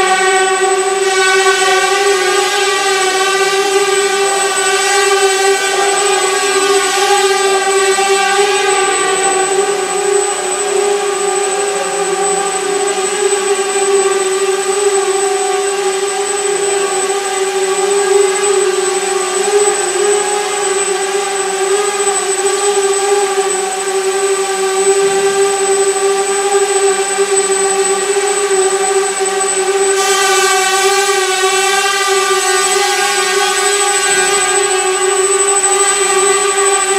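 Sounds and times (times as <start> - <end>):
drone propellers buzzing: 0.0 - 36.9
thin high whine: 0.0 - 36.9.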